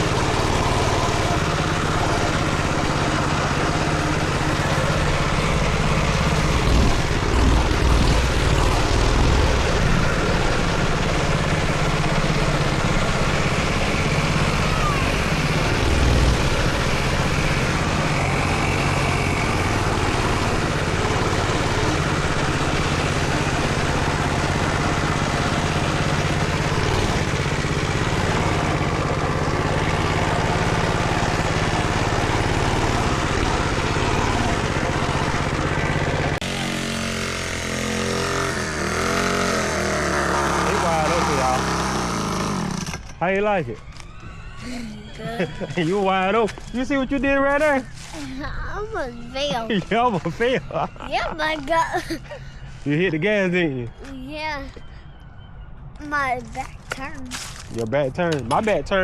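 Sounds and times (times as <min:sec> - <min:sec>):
small motorcycle engine running: 0:00.0 - 0:55.2.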